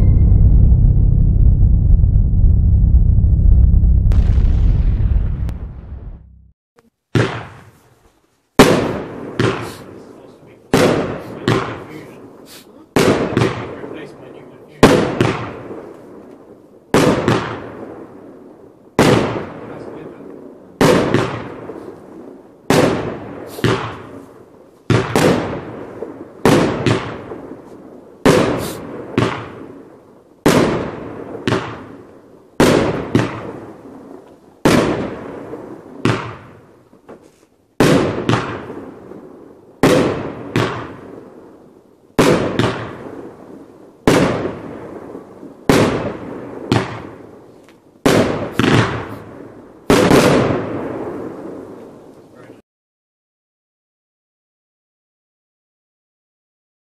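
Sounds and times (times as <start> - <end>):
firework bangs: 0.0 - 6.5, 7.1 - 8.0, 8.6 - 47.3, 48.0 - 52.0.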